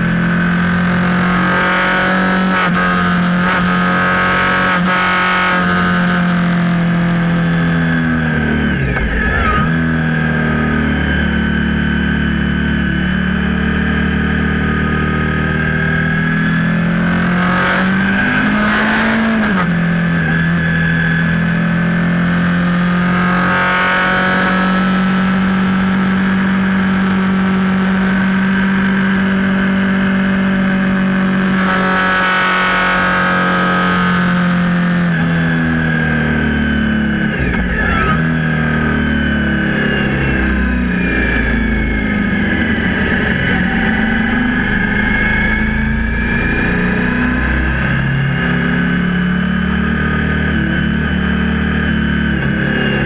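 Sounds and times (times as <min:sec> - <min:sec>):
motorcycle engine running hard: 0:00.0 - 0:53.0.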